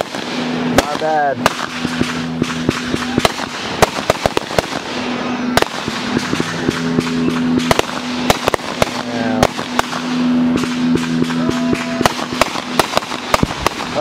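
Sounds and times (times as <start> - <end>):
fireworks bangs and crackles: 0.0 - 14.0
low two-note hum: 0.0 - 14.0.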